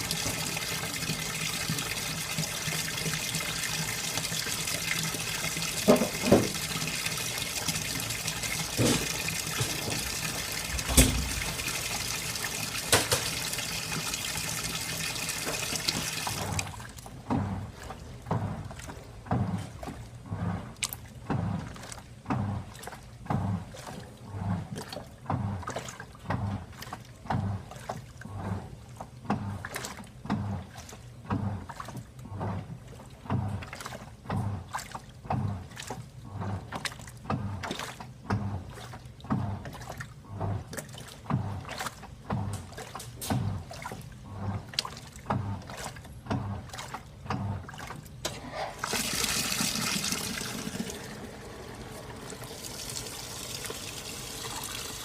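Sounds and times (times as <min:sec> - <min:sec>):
washing machine filling with water: 0:00.0 - 0:55.0
washing machine tub sloshing: 0:00.0 - 0:55.0.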